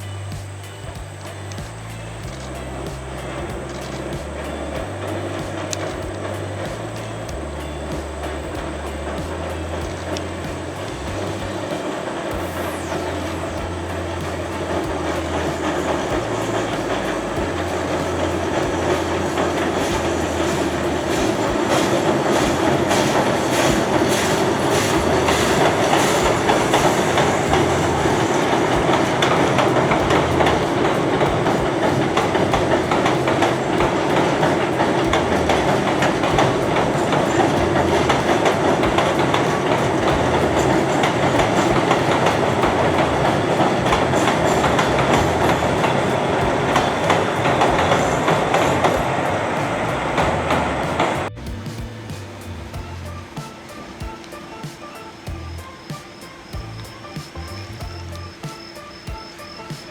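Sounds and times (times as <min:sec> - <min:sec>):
train wheels clicking over rails: 0:00.0 - 0:59.9.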